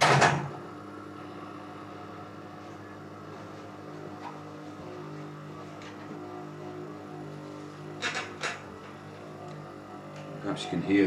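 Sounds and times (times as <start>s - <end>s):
motor and transformer humming buzz: 0.0s - 11.0s.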